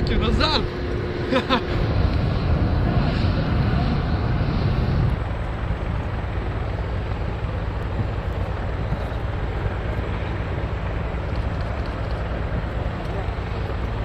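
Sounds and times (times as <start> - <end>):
helicopter rotor and turbine: 0.0 - 14.0.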